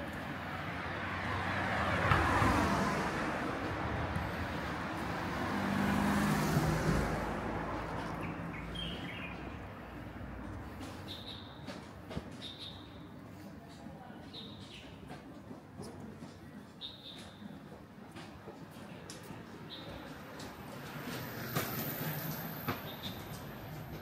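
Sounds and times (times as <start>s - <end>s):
steady traffic noise: 0.0s - 24.0s
vehicles passing close by: 0.0s - 24.0s.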